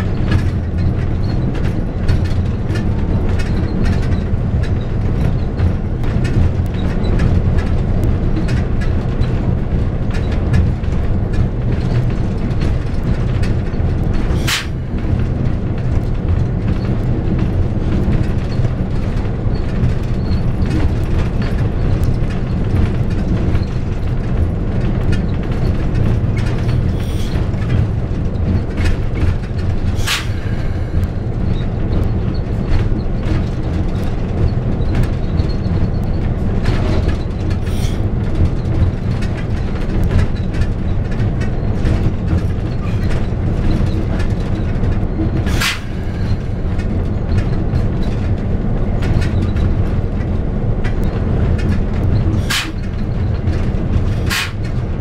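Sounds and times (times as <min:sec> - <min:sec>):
train rumbling on jointed track: 0:00.0 - 0:55.0
wheels clicking over rail joints: 0:00.0 - 0:55.0.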